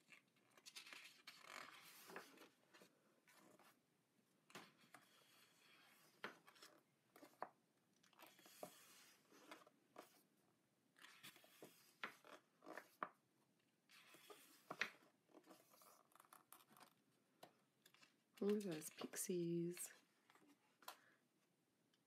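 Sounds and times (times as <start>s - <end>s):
book pages turning: 0.0s - 3.8s, 4.4s - 13.2s, 13.8s - 19.2s.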